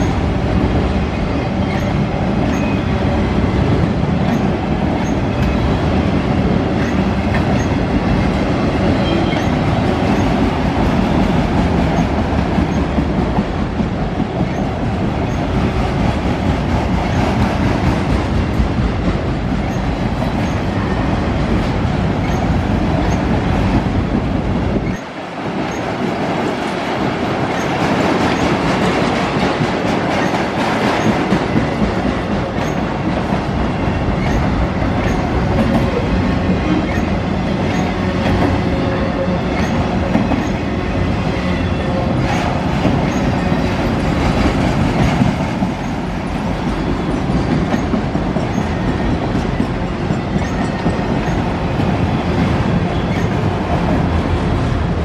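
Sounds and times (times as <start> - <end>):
clickety-clack over rail joints: 0.0 - 55.0
freight train wheels rumbling: 0.0 - 55.0.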